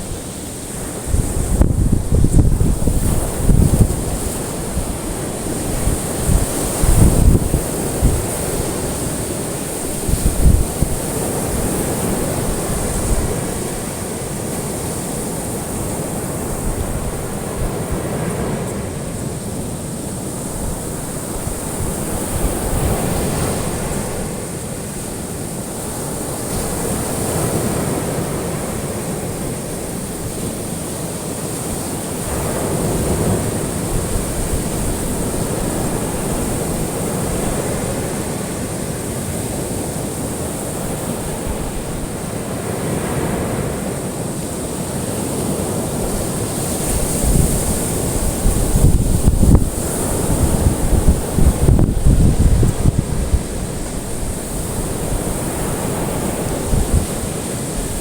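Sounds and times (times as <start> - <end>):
wind buffeting microphone: 0.0 - 30.5, 32.0 - 43.2, 44.7 - 58.0
ocean surf breaking on shore: 0.0 - 58.0.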